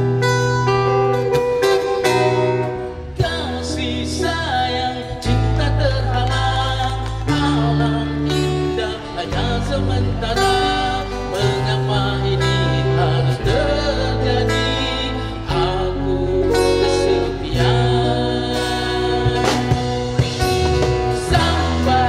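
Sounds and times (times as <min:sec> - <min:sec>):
bass line: 0:00.0 - 0:22.0
guitar: 0:00.0 - 0:22.0
man singing rock ballad: 0:02.6 - 0:22.0.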